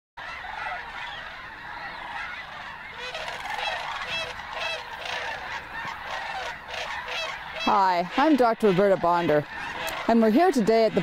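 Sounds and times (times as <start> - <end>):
geese and cranes honking: 0.2 - 11.0.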